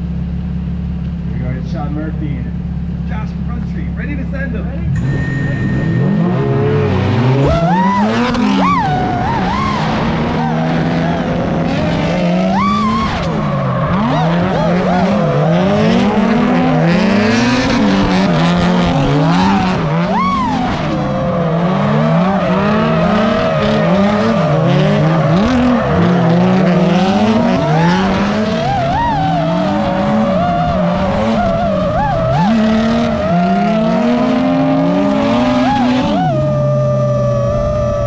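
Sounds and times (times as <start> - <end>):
car engines revving: 0.0 - 38.0
tires squealing: 4.6 - 38.0.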